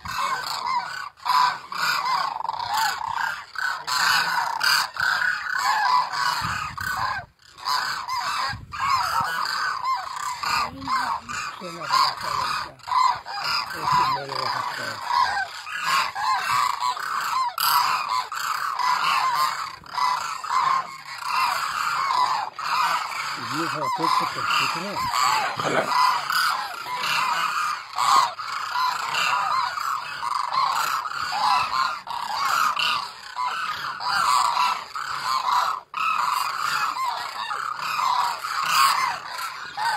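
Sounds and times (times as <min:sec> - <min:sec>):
flock of cranes calling: 0:00.0 - 0:39.9.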